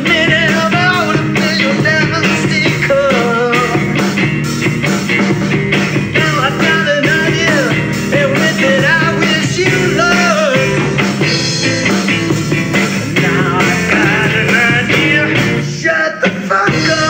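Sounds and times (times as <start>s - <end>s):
rock music with bending lead line: 0.0s - 17.0s.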